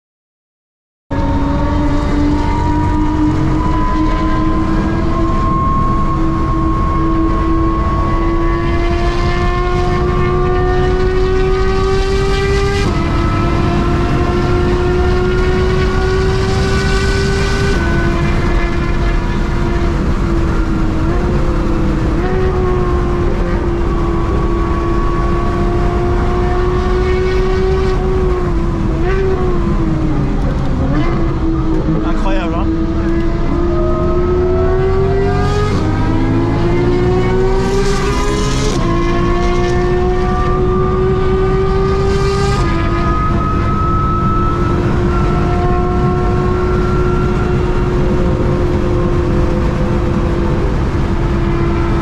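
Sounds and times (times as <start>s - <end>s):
car engine accelerating: 1.1s - 52.0s
road and wind noise: 1.1s - 52.0s.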